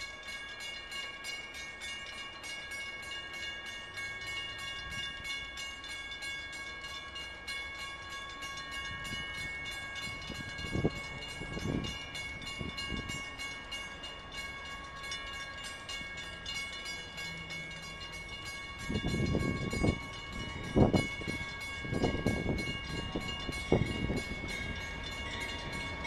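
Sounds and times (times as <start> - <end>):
crossing warning bell ringing: 0.0 - 26.0.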